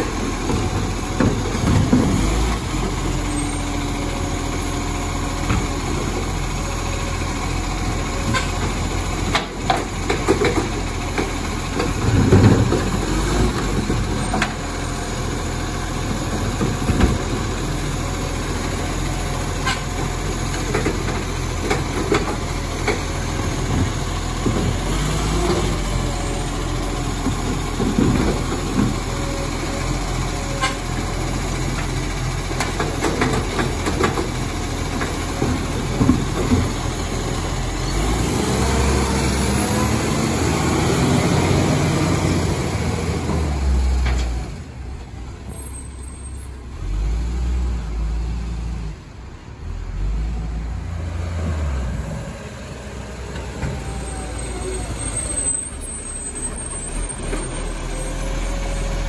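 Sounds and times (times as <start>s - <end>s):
garbage truck engine running: 0.0s - 48.2s, 49.0s - 59.0s.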